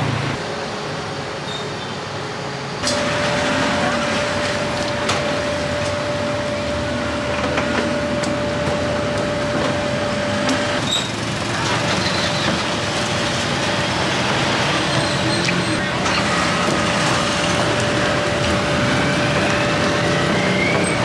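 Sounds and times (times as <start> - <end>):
passing road traffic: 0.0 - 1.5, 2.8 - 21.0.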